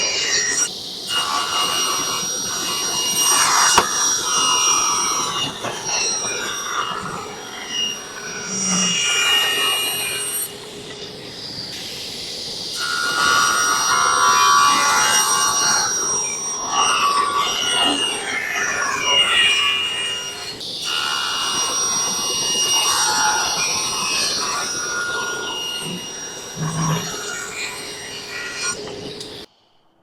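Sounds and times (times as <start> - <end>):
table saw cutting wood: 0.0 - 29.5.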